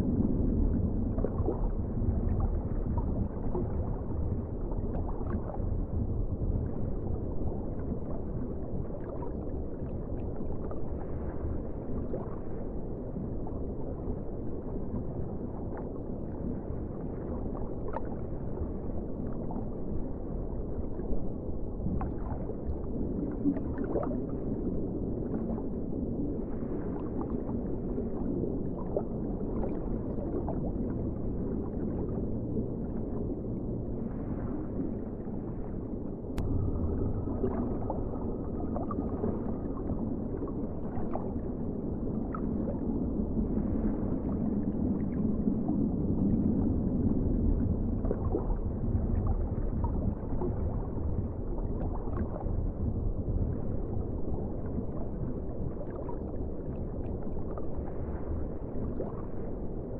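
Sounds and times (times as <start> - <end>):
underwater rumble and wash: 0.0 - 59.9.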